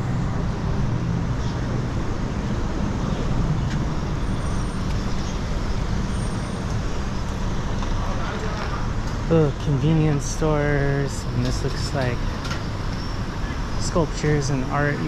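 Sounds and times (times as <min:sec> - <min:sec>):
road traffic rumbling past: 0:00.0 - 0:15.0.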